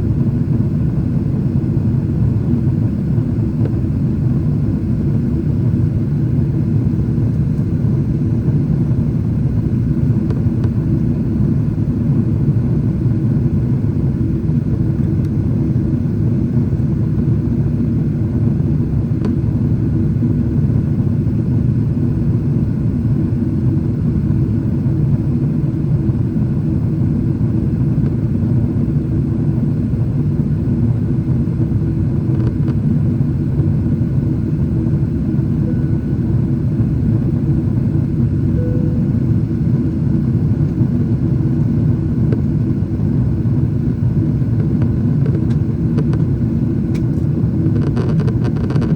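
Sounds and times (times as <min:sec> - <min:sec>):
constant hum: 0:00.0 - 0:48.9
jet engine rumble in cabin: 0:00.0 - 0:48.9.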